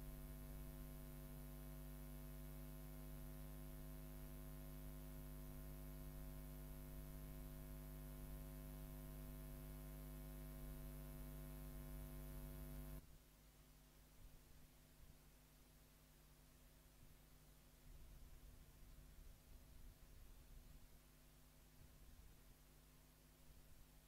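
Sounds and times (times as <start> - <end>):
electrical mains hum: 0.0 - 24.0
light hiss: 0.0 - 24.0.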